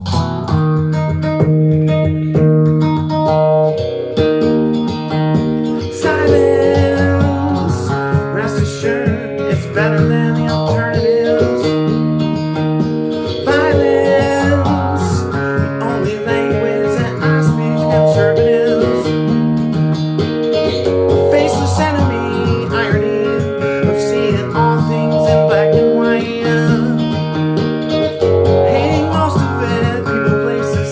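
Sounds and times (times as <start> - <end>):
plucked guitar notes: 0.0 - 30.9.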